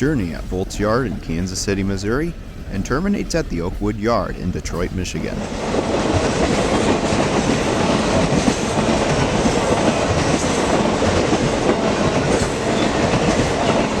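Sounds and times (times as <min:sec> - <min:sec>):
steel wheels on rails: 0:00.0 - 0:14.0.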